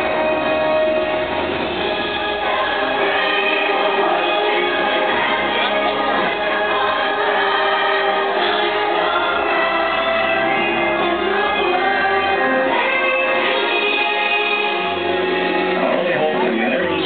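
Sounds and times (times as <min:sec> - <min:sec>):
choir singing over backing music: 0:00.1 - 0:17.0.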